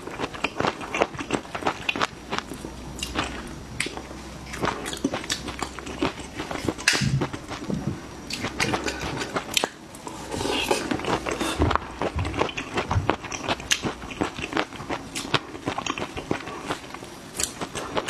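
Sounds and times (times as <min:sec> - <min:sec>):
wet chewing and crunching: 0:00.0 - 0:18.0.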